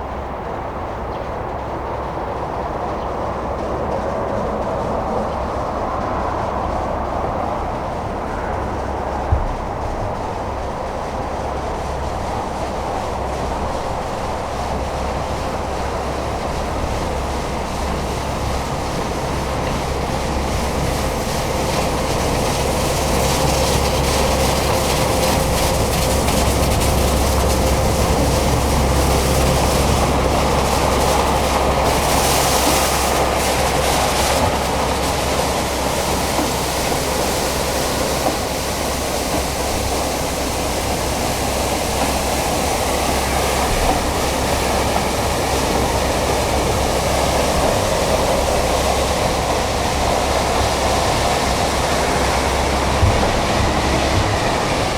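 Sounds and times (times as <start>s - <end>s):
road sweeper engine rumble: 0.0s - 54.9s
sweeping hiss: 2.0s - 54.9s.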